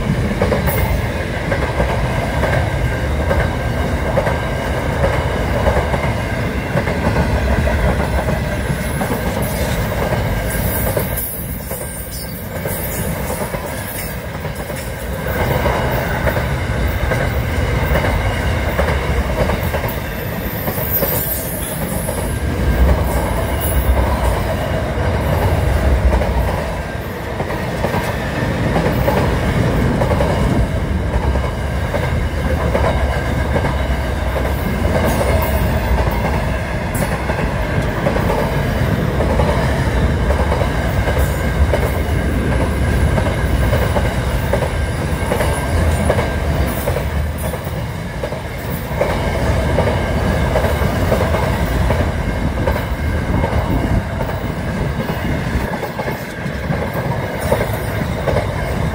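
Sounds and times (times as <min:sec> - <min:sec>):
train wheels rolling on rails: 0:00.0 - 0:58.9.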